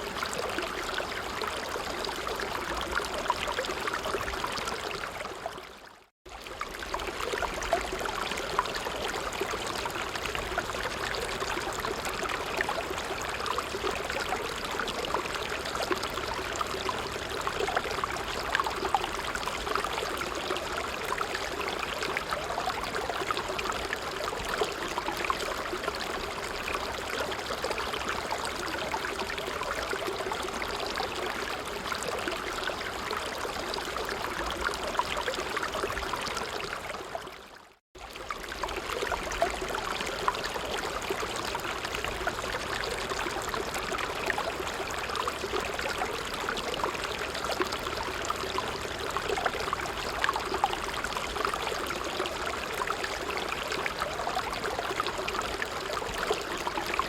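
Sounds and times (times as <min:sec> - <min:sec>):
creek babbling over stones: 0:00.0 - 0:57.0.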